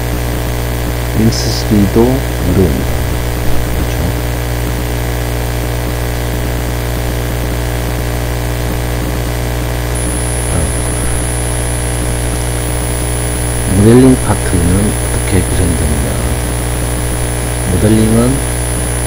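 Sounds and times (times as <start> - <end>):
electrical mains hum: 0.0 - 19.0
high steady whine: 0.0 - 19.0.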